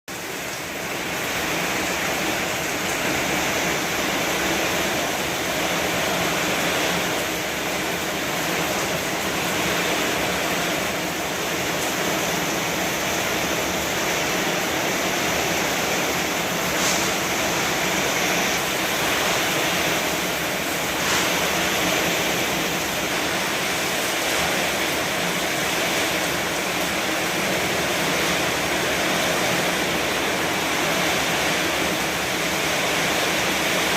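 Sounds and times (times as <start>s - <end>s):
heavy rain and wind: 0.1s - 33.9s.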